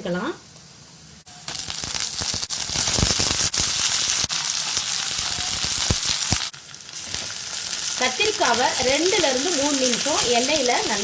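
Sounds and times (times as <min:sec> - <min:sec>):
vegetables sizzling in hot oil: 0:00.1 - 0:11.0.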